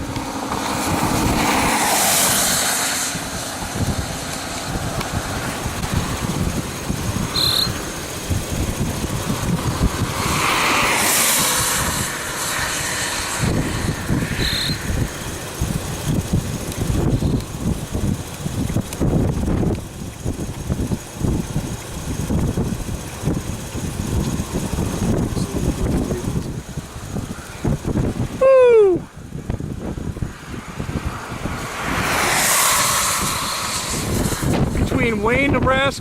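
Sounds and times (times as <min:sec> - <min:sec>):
long whooshes: 0:00.0 - 0:35.2
vehicle noise: 0:00.0 - 0:36.0
wind noise: 0:00.0 - 0:36.0.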